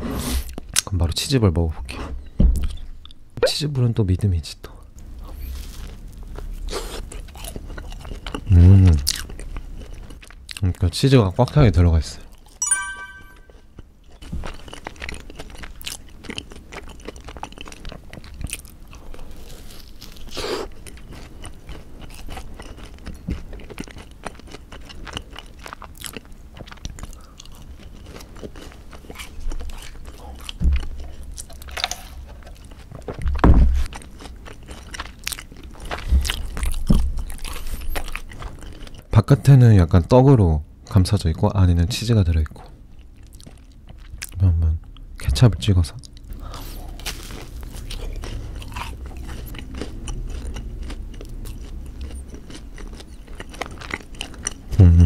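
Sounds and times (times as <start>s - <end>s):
chewing with soft crunching: 4.6s - 12.6s, 13.5s - 40.1s, 42.4s - 45.2s, 46.0s - 55.0s.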